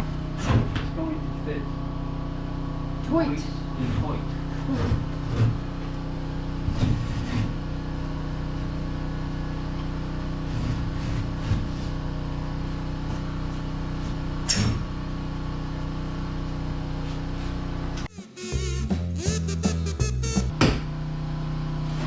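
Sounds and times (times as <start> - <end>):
steady mechanical hum: 0.0 - 18.1.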